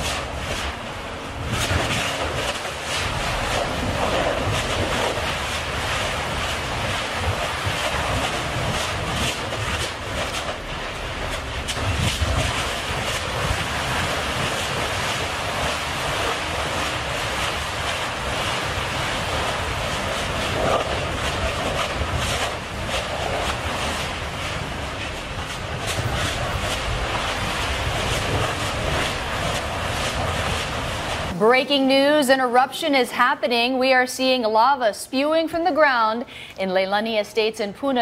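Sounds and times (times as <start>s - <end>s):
lava crackles and pops: 0.0s - 31.4s
low rumble: 0.0s - 31.5s
lava fountaining roar: 0.0s - 32.9s.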